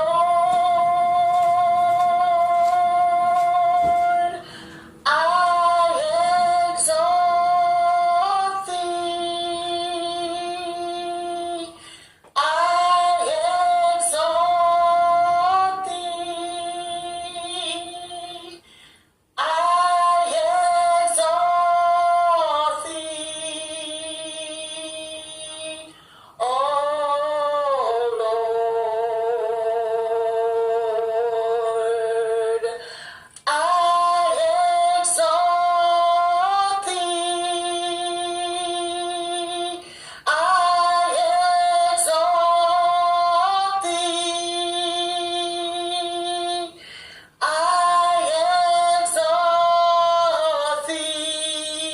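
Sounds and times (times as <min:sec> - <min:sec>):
woman singing unaccompanied: 0:00.0 - 0:18.7, 0:19.4 - 0:32.8, 0:33.4 - 0:46.8, 0:47.4 - 0:51.9.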